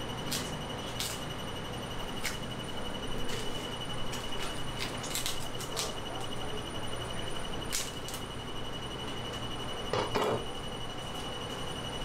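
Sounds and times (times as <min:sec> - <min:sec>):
fish market background noise: 0:00.0 - 0:12.0
high-pitched whine: 0:00.0 - 0:12.0.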